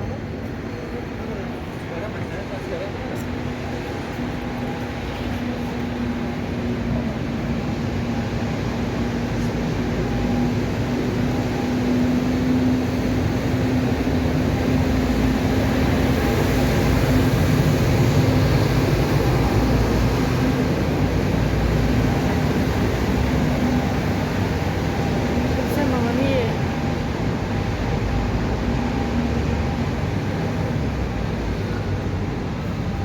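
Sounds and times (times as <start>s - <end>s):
steady mechanical hum: 0.0s - 33.0s.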